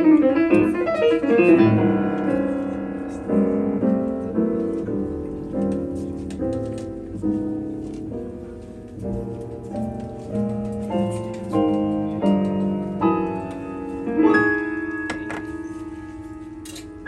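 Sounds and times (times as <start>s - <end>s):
jazz piano chords: 0.0s - 17.0s.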